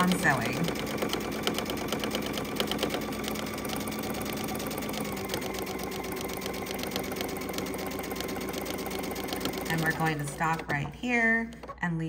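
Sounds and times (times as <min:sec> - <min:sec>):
sewing machine stitching: 0:00.0 - 0:11.9.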